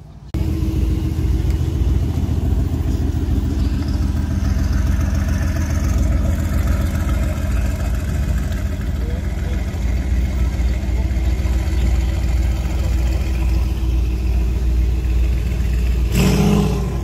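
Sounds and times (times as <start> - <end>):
car exhaust rumble: 0.0 - 17.0.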